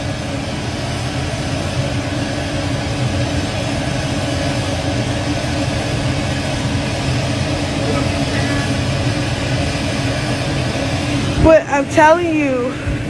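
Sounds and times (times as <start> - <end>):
jet aircraft cabin drone: 0.0 - 13.0.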